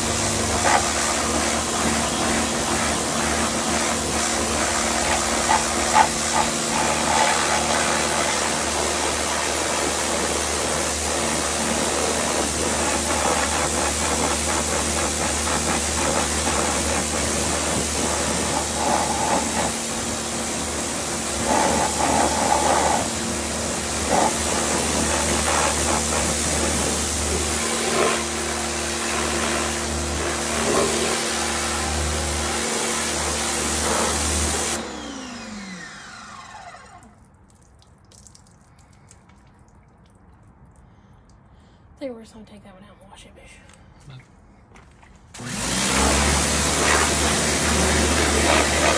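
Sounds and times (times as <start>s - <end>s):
pressure washer jet hissing: 0.0s - 35.7s, 45.4s - 48.9s.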